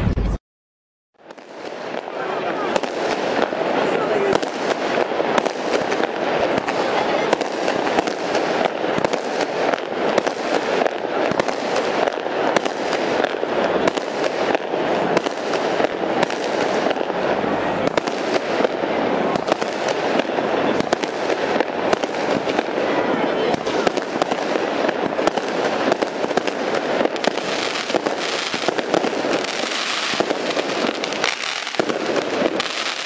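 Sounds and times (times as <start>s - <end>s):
fireworks cracking and banging: 1.2s - 33.0s.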